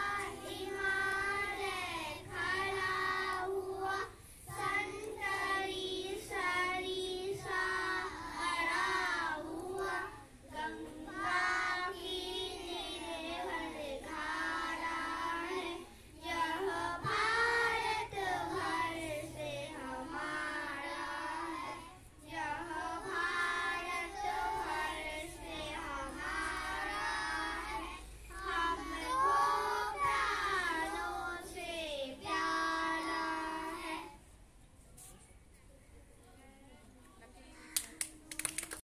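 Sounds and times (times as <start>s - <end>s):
young children singing: 0.0s - 34.2s.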